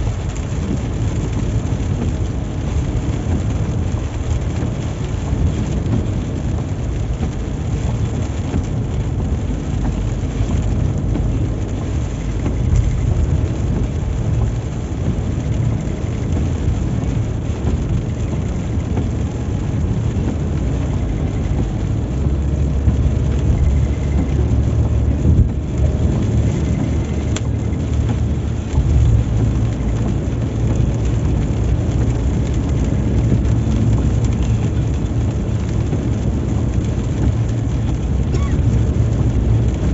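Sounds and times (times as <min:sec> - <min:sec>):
car road and engine rumble: 0:00.0 - 0:39.9
rain on car: 0:00.0 - 0:39.9.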